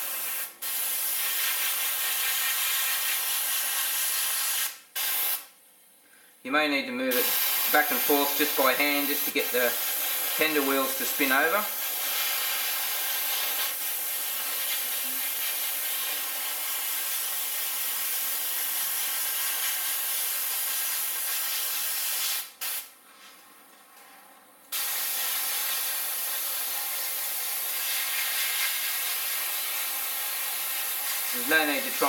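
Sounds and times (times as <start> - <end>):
airbrush spraying hiss: 0.0 - 5.5, 7.1 - 22.9, 24.7 - 32.0.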